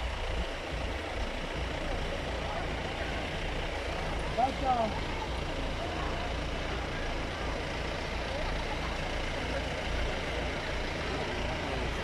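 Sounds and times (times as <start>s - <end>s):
jeep engines idling: 0.0s - 12.0s.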